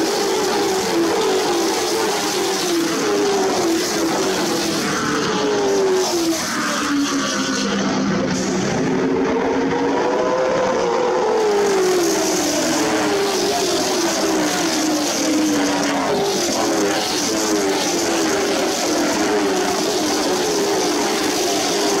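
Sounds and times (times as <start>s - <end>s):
race cars engines at high revs: 0.0s - 22.0s.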